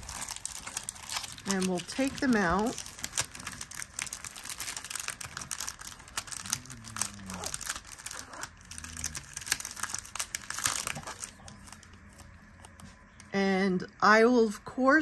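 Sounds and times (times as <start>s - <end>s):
plastic packaging crinkling: 0.0s - 13.3s.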